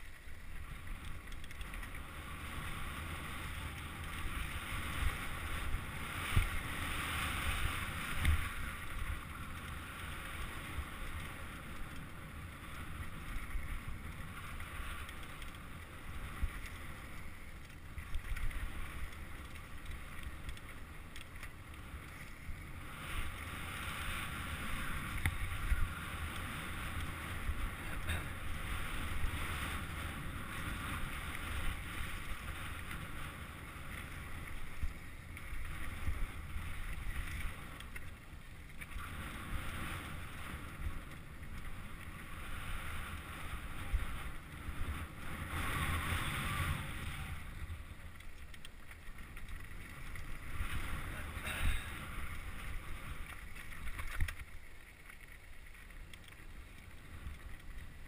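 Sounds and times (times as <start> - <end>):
bike tyre noise and rattle: 0.0 - 58.0.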